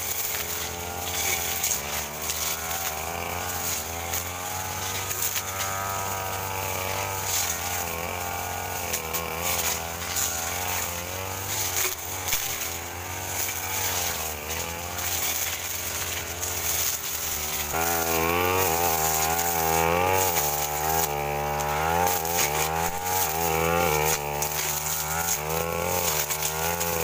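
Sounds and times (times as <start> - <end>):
brush cutter engine under load: 0.0 - 27.0.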